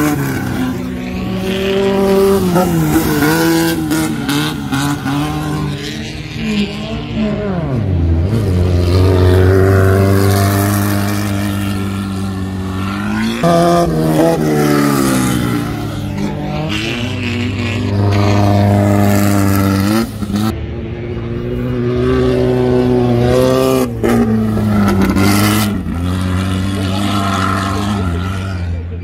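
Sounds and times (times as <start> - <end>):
race car engines accelerating: 0.0 - 29.0.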